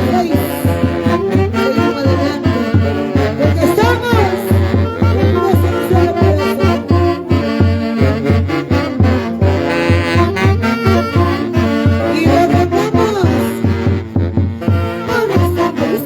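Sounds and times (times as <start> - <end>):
saxophones playing melody: 0.0 - 16.0.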